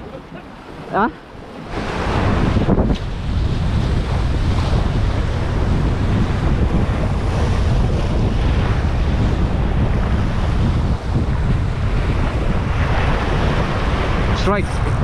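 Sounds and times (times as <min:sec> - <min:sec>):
sea waves: 0:00.0 - 0:15.0
wind buffeting microphone: 0:00.0 - 0:15.0.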